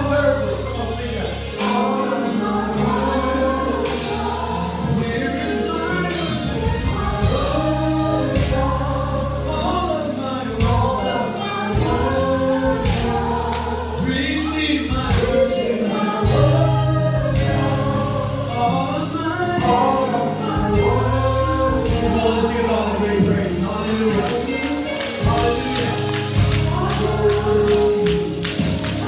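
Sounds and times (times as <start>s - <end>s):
bass notes: 0.0s - 29.0s
gospel choir singing: 0.0s - 29.0s
steady drum beat: 0.0s - 29.0s.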